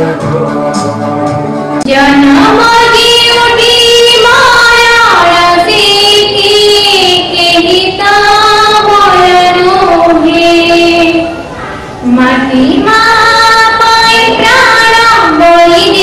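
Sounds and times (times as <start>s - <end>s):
woman singing slow melody: 1.8s - 11.4s, 12.0s - 16.0s.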